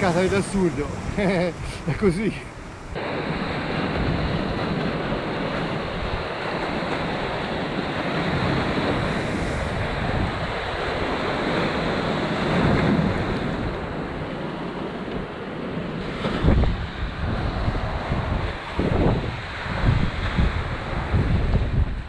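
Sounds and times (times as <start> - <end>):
surf breaking on rocky shore: 0.0 - 22.0
wind buffeting microphone: 0.0 - 22.0.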